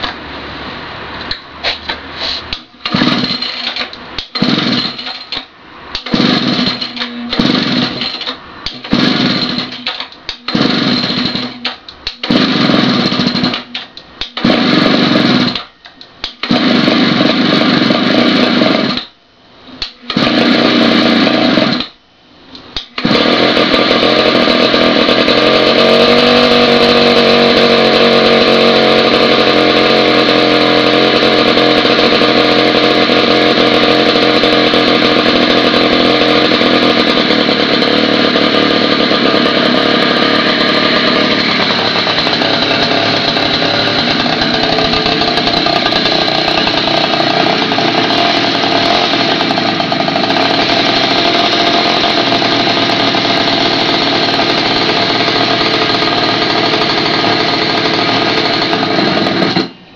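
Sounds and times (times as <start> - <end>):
small engine running: 2.8 - 5.4, 6.0 - 13.6, 14.4 - 15.6, 16.4 - 19.0, 20.1 - 21.8, 23.0 - 59.7.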